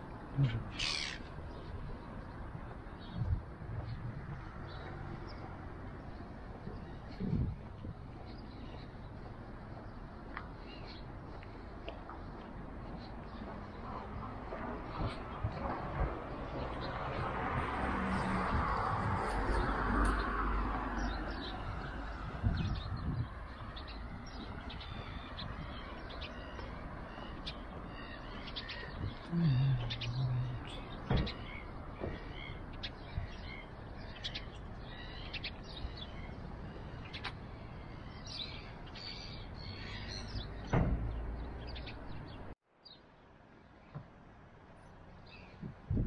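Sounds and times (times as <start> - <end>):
birds chirping: 0.0 - 44.1, 44.7 - 45.8
outdoor background noise: 0.0 - 46.0.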